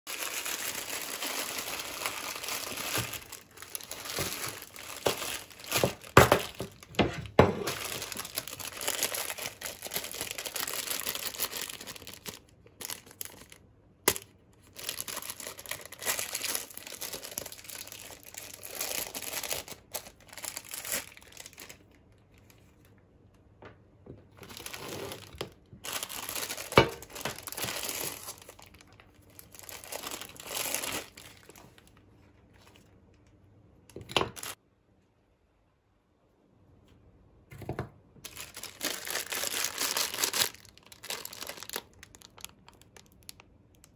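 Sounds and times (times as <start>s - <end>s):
plastic wrappers crinkling and tearing: 0.1s - 22.9s, 24.4s - 33.2s, 34.2s - 34.6s, 38.2s - 43.9s.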